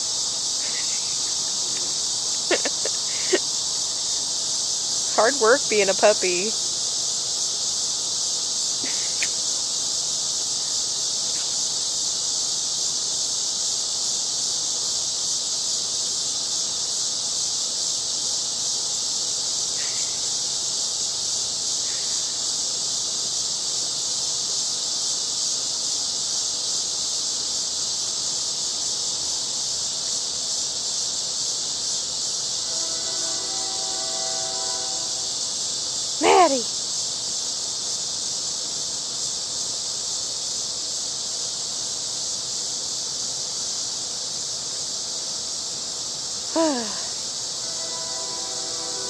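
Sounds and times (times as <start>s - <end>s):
insects buzzing: 0.0s - 49.0s.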